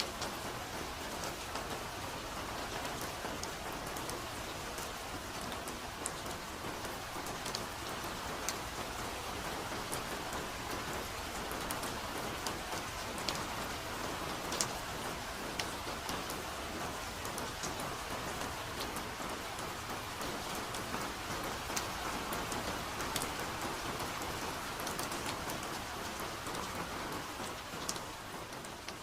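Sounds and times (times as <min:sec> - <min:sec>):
soft rain falling in forest: 0:00.0 - 0:29.0.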